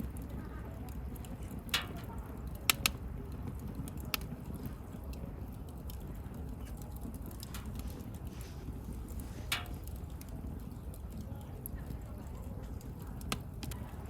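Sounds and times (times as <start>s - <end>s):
fire crackling and popping: 0.0s - 14.0s
flames rushing: 0.0s - 14.0s.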